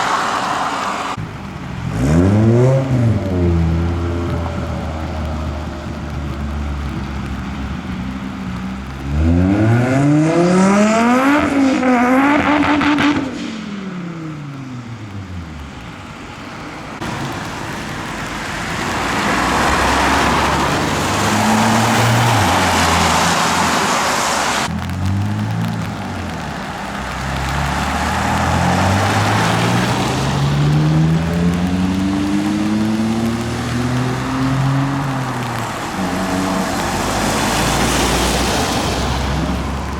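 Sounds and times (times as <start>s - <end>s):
car passing by: 0.0s - 15.7s, 16.3s - 39.9s
car engine revving: 0.0s - 39.9s.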